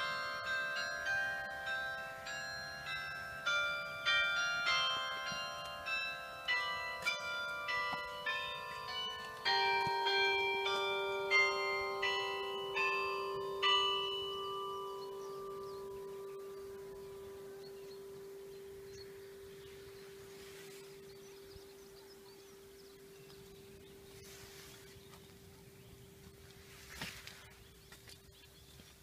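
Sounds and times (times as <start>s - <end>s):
deep bell: 0.0s - 24.2s
church bells ringing: 0.0s - 24.3s.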